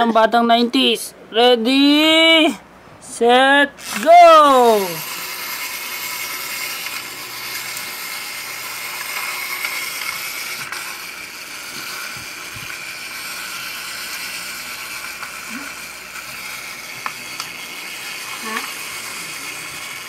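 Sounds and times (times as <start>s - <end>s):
toy motor and gears whirring: 3.7s - 20.0s.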